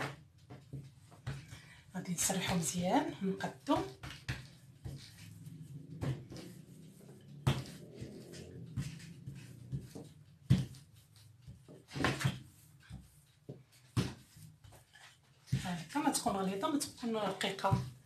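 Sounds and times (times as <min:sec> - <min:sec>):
rolling pin rolling dough: 0:00.0 - 0:18.0.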